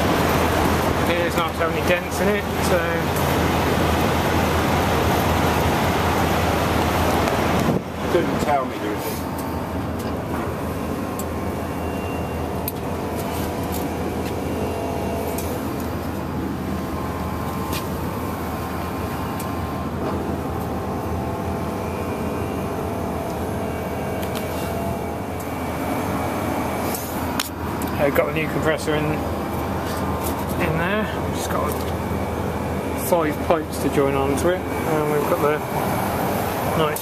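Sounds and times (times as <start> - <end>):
mechanical drone: 0.0 - 37.0.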